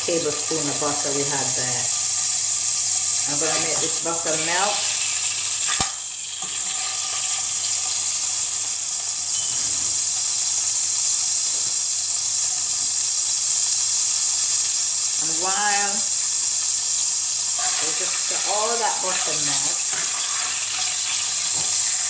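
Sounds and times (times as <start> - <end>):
butter sizzling in a frying pan: 0.0 - 22.0.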